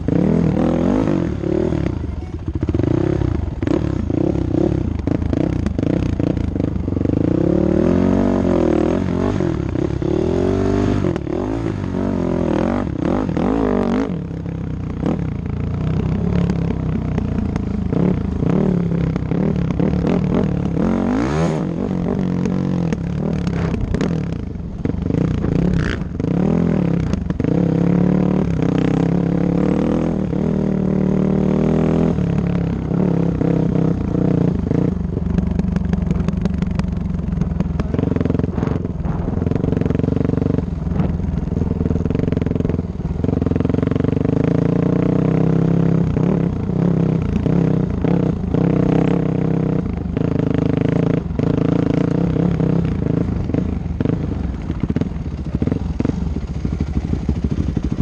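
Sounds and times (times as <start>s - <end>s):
dirt bike engine revving: 0.0s - 35.2s, 37.5s - 58.0s.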